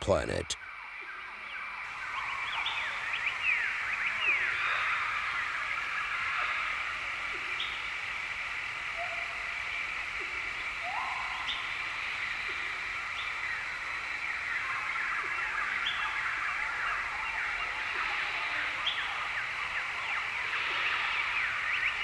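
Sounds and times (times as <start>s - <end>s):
chorus of calling animals: 1.9s - 22.0s.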